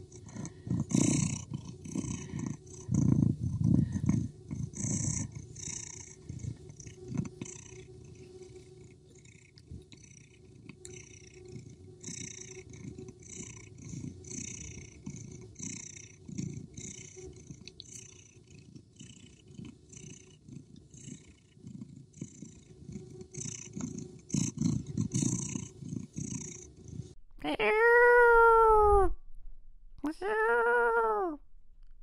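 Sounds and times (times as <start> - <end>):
cat purring: 0.0 - 29.1.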